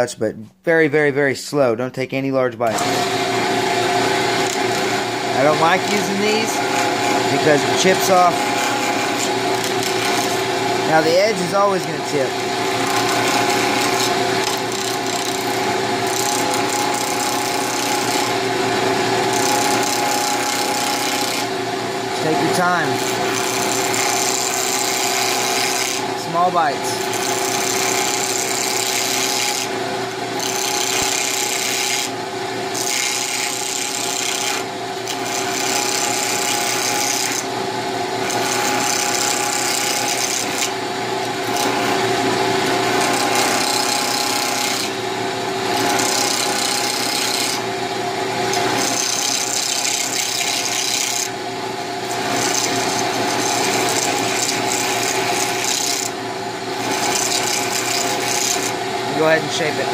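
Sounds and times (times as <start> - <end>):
turning tool scraping: 2.7 - 29.7, 30.4 - 32.1, 32.7 - 37.5, 38.2 - 45.0, 45.7 - 47.6, 48.5 - 51.3, 52.0 - 56.2, 56.8 - 59.9
wood lathe humming: 2.7 - 59.9.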